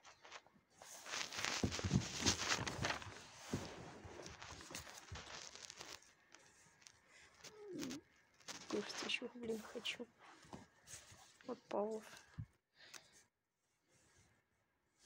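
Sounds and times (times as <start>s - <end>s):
paper rustling: 0.0s - 12.4s.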